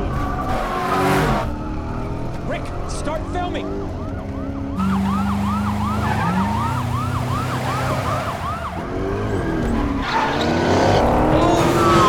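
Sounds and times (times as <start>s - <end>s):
car engines accelerating: 0.0s - 12.0s
police siren yelp: 0.0s - 12.0s.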